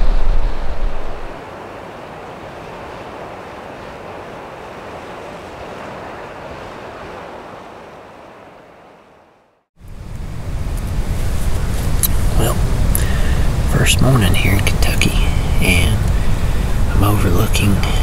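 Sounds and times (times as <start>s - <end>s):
low wind rumble on microphone: 0.0s - 18.0s
wind rushing over microphone: 0.0s - 18.0s.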